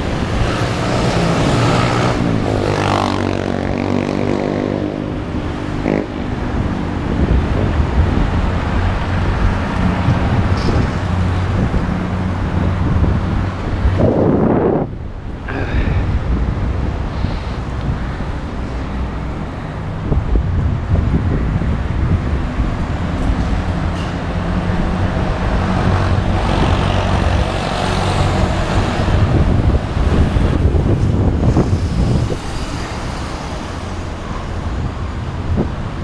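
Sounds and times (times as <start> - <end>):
road traffic passing: 0.0 - 36.0
wind rumbling on microphone: 0.0 - 36.0.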